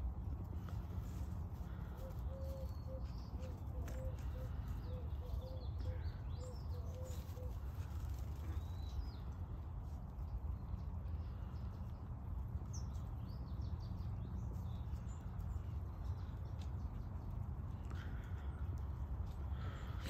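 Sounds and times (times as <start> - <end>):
low background rumble: 0.0 - 20.0
wild birds chirping: 0.0 - 20.0.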